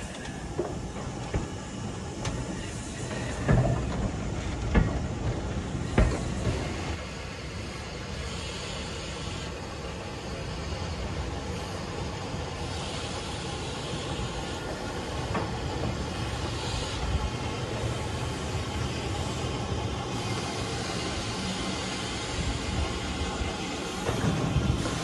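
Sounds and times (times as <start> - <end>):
rumble of wheels on rail: 0.0 - 25.0
steam hissing: 0.0 - 25.0.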